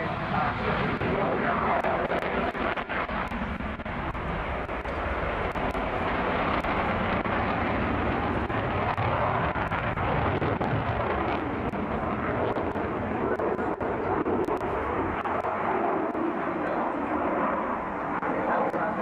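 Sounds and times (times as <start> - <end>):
jet flying overhead: 0.0 - 19.0.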